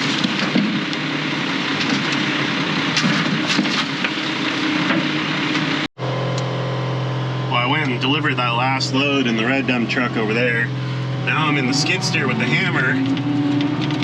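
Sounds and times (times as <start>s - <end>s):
diesel engine drone: 0.0s - 14.0s
low diesel hum: 0.0s - 14.0s.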